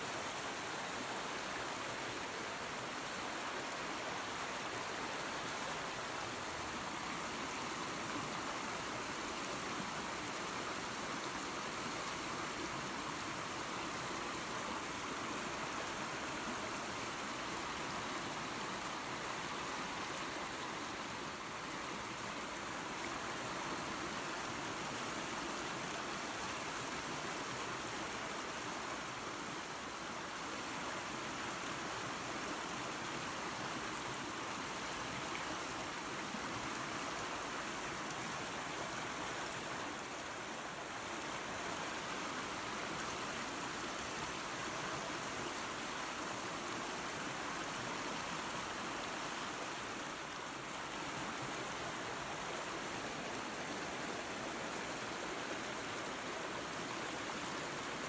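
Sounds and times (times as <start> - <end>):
waterfall and creek rushing: 0.0 - 58.0.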